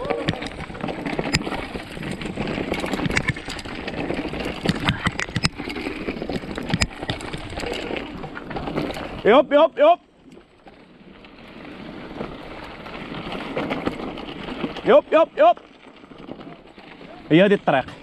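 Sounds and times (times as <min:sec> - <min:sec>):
mountain bike rattling over dirt: 0:00.0 - 0:18.0.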